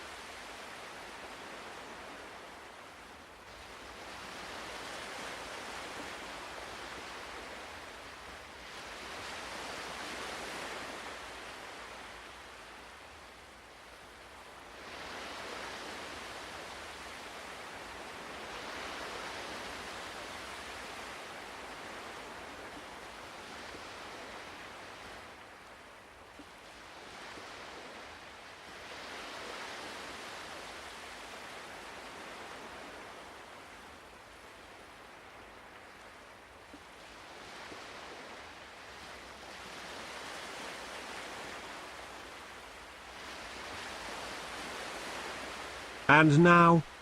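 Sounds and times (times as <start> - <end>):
ocean waves washing ashore: 0.0 - 47.0.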